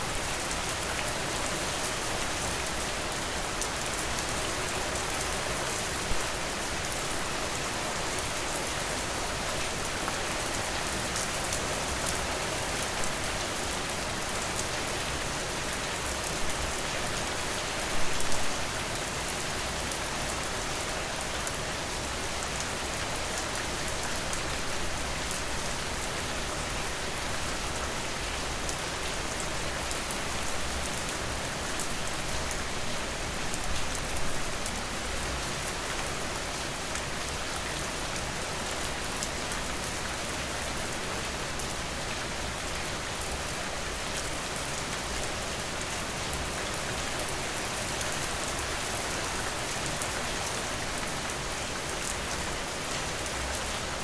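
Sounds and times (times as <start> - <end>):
rain with fine drop patter: 0.0 - 54.0.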